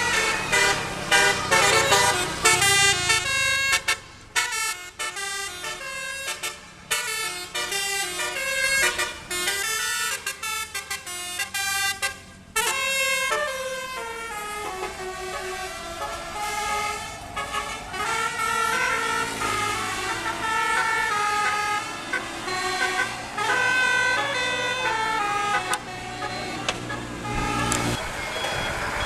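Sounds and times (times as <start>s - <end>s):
musical bus horn melody: 0.0s - 28.0s.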